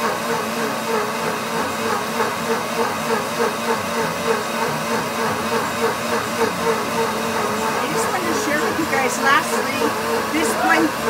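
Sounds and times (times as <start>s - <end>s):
blender churning water: 0.0s - 11.0s.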